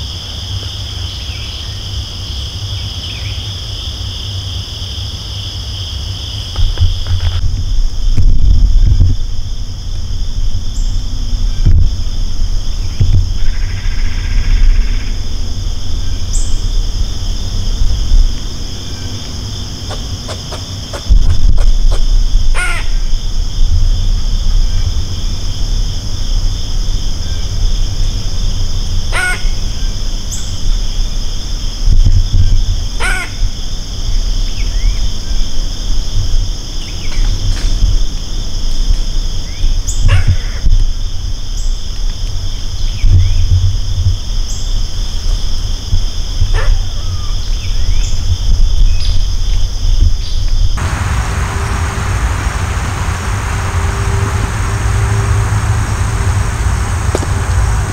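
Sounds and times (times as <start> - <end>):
insects droning: 0.0 - 57.9
wind rumble on microphone: 4.4 - 57.9.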